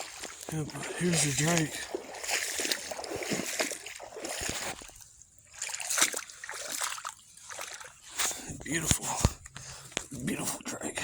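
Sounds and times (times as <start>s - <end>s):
splashing in shallow water: 0.0s - 9.6s.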